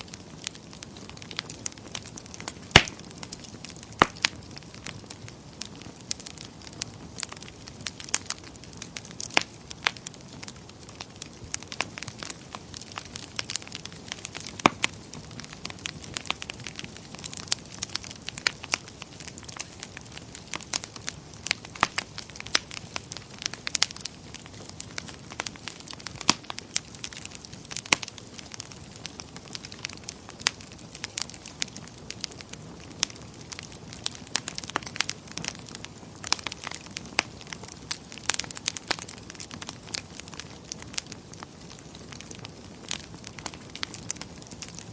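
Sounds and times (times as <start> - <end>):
soft hiss of burning: 0.0 - 44.9
wood fire crackling: 0.0 - 44.9.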